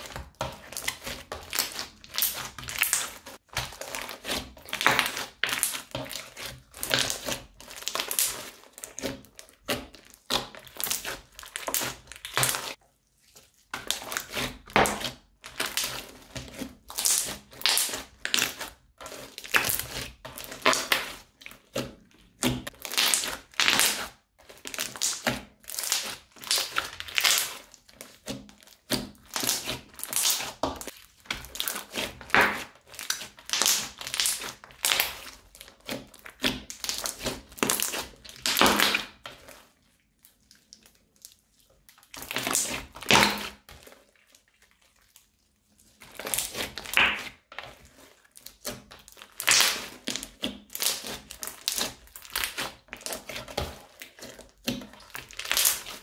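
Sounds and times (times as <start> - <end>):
crunchy slime crackling: 0.0 - 56.0.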